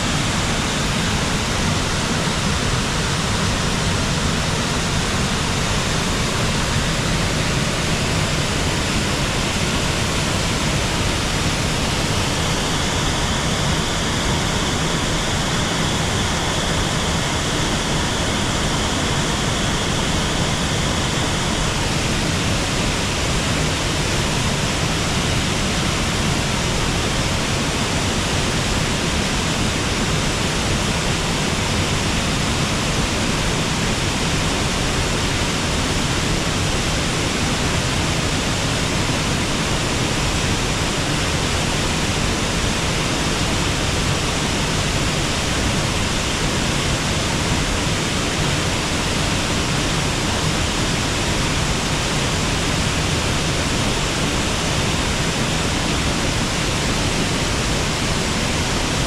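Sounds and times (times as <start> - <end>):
waterfall and river roaring: 0.0 - 59.0.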